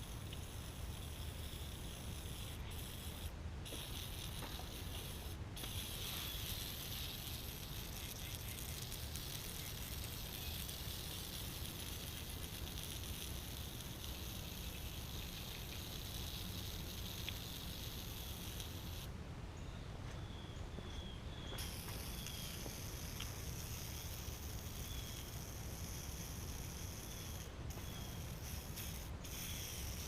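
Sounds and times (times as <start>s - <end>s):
hose water spraying hiss: 0.0s - 19.1s, 21.6s - 30.0s.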